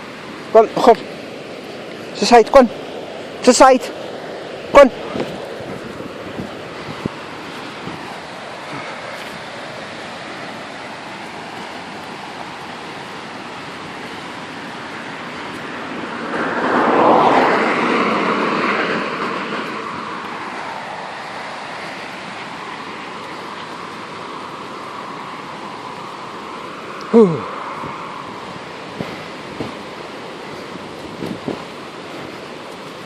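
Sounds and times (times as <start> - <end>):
rushing wind: 0.0 - 33.0.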